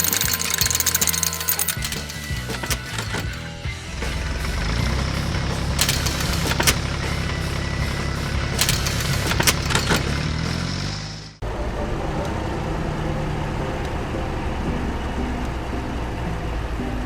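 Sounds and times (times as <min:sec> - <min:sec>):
diesel machinery engine running: 0:00.0 - 0:17.0
engine running steadily: 0:00.0 - 0:17.0.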